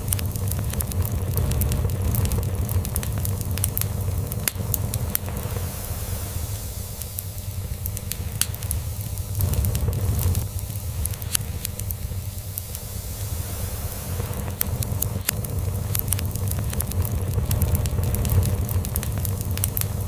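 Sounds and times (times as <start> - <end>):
log fire crackling: 0.0 - 20.0.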